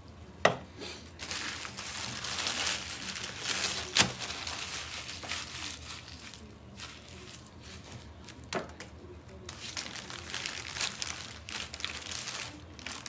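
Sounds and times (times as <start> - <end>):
plastic bag crinkling: 1.1 - 8.6, 9.3 - 13.0.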